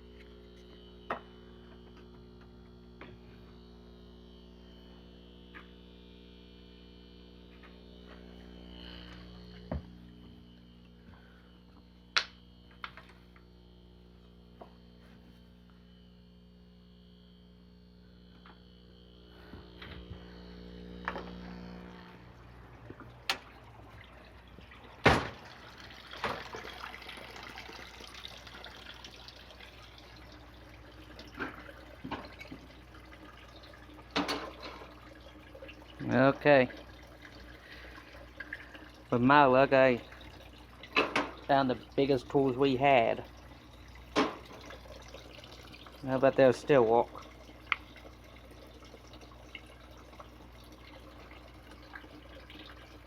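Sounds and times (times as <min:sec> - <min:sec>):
running trickling water: 0:00.0 - 0:53.0
steady hum: 0:00.0 - 0:53.0.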